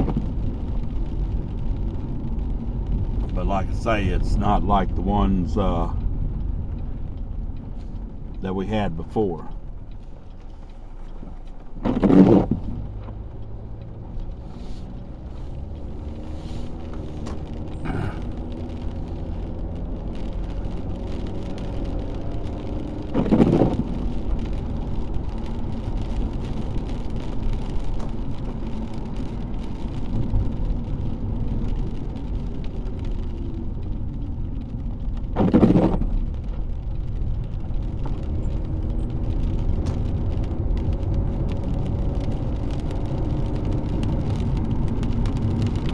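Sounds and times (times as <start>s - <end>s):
car engine hum: 0.0s - 45.9s
road noise in rain: 0.0s - 45.9s.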